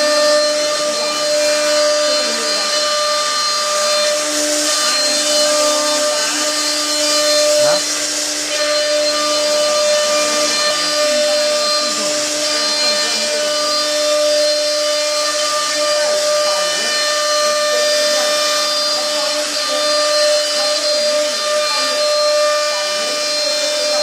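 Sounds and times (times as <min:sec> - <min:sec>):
machine motor whining: 0:00.0 - 0:24.0.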